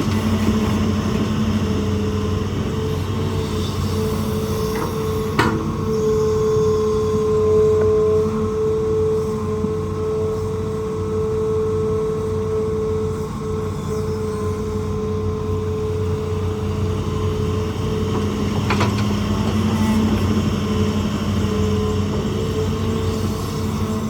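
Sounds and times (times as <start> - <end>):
excavator diesel engine running: 0.0 - 24.0
hydraulic whine: 0.0 - 24.0.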